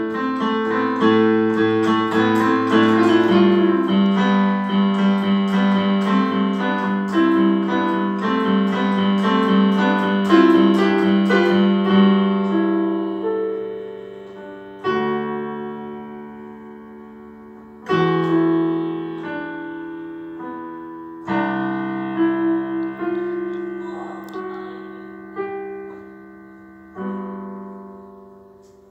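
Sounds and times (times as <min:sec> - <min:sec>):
piano playing: 0:00.0 - 0:28.9.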